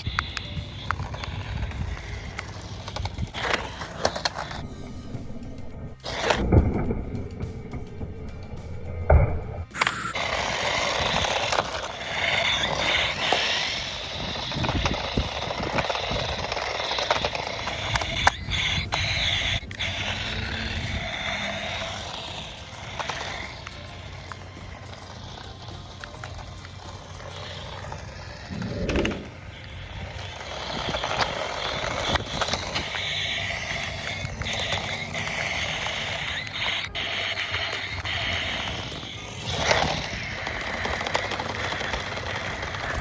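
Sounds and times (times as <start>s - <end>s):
plastic wheels rolling: 0.0s - 43.0s
toy car bumps: 0.0s - 43.0s
toy car electric motor whining: 0.0s - 43.0s.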